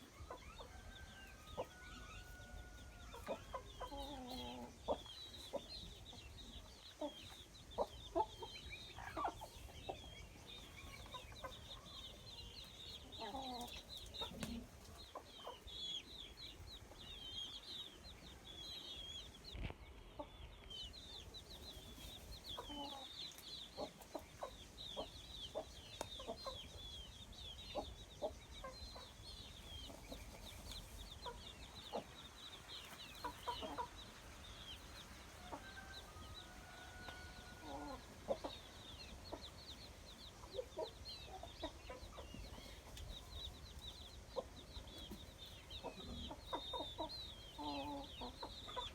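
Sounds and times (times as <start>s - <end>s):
chickens clucking: 0.0s - 48.9s
chicks cheeping: 0.0s - 48.9s.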